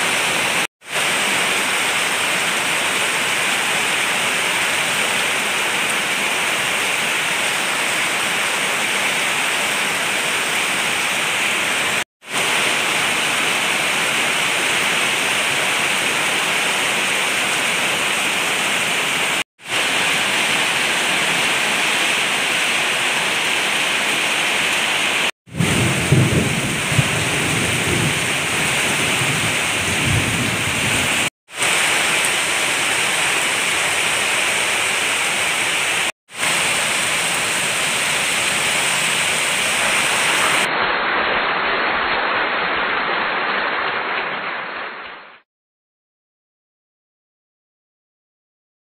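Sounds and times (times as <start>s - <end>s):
heavy rain pouring: 0.0s - 45.4s.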